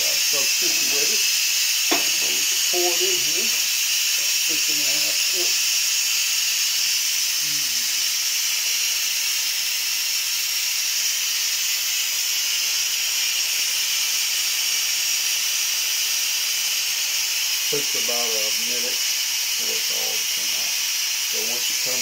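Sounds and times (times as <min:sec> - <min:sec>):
pressure cooker steam hiss: 0:00.0 - 0:22.0.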